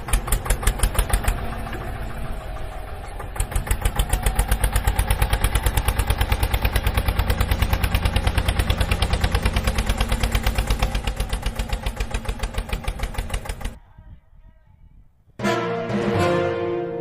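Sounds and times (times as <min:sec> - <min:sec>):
tractor engine chugging: 0:00.0 - 0:13.8.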